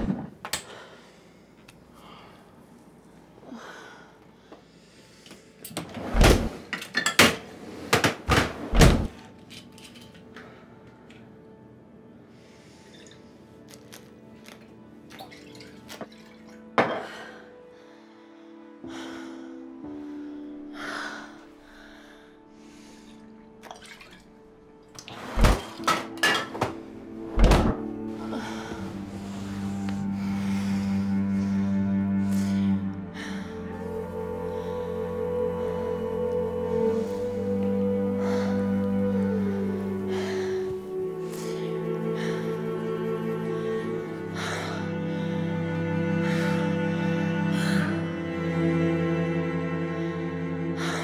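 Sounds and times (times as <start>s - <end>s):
low music drone: 0.0s - 51.0s.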